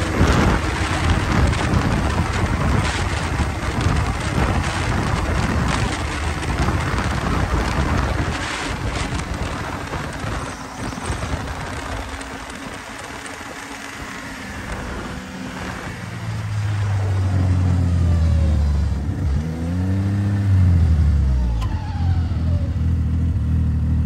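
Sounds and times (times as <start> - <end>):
snowmobile engine running: 0.0 - 21.6
wind rushing over microphone: 0.0 - 22.5.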